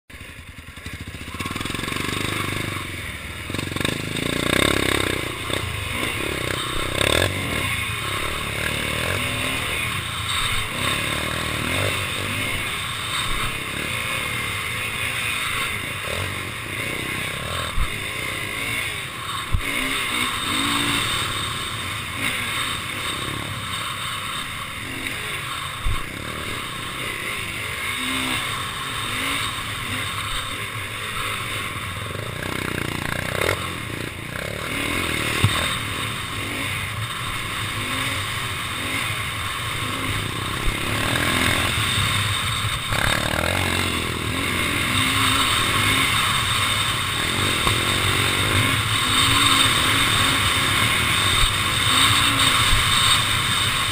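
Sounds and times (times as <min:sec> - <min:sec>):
dirt bike engine revving: 0:00.1 - 0:53.9
steady rushing noise: 0:00.1 - 0:53.9.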